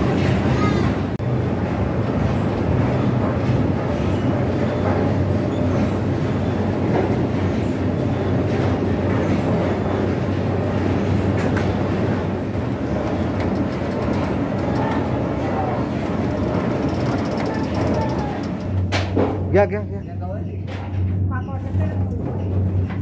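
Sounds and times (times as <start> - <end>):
factory machinery rumbling and rattling: 0.0 - 23.0.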